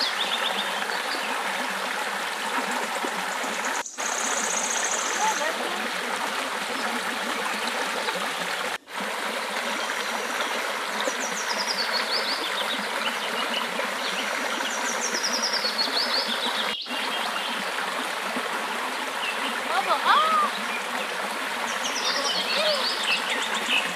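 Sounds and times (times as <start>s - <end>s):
stream running over rocks: 0.0s - 23.9s.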